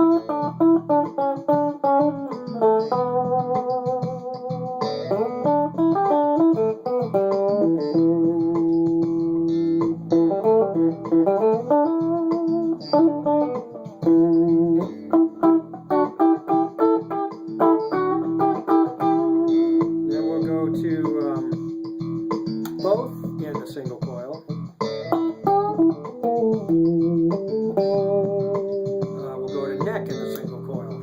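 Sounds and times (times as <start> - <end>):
electric guitar lead line: 0.0 - 31.0
looped backing track: 0.0 - 31.0.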